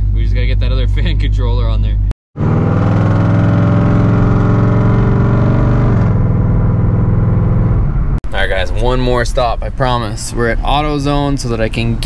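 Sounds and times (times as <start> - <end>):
car engine and exhaust: 0.0 - 12.0.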